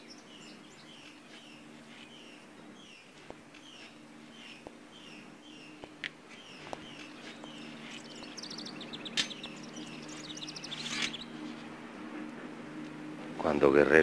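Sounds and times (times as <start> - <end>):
high bird trill: 0.0 - 11.7
small birds chirping: 0.0 - 13.1
faint low hum: 0.0 - 14.0.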